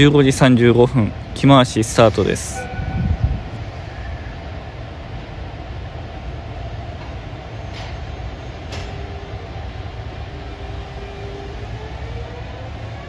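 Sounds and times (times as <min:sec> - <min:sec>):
electric locomotive rumble: 0:00.0 - 0:13.0.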